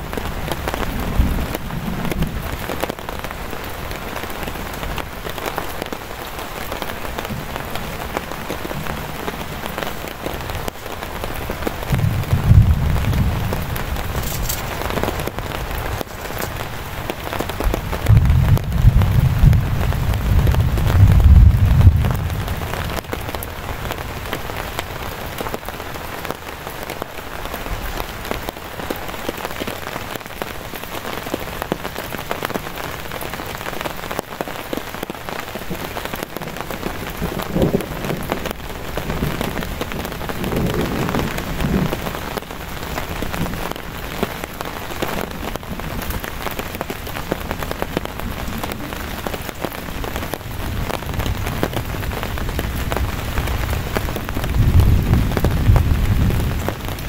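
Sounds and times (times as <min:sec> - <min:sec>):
heavy rain on tarp: 0:00.0 - 0:57.0.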